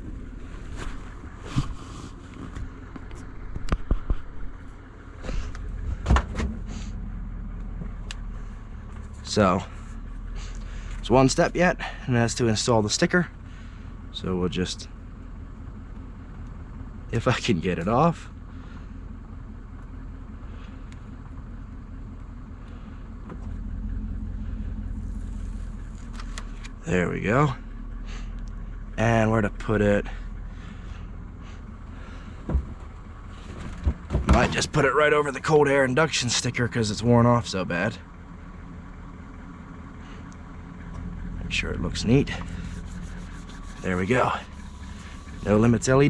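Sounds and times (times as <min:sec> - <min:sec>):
steady low rumble: 0:00.0 - 0:46.0
vehicle engine idling: 0:00.0 - 0:46.0.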